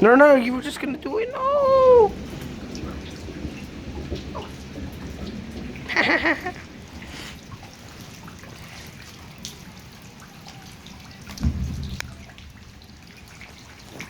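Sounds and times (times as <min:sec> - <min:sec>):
rain falling and dripping: 0:00.0 - 0:14.0.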